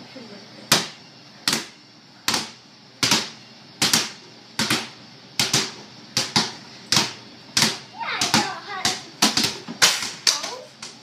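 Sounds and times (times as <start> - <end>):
basketball bouncing on concrete: 0.7 - 11.0.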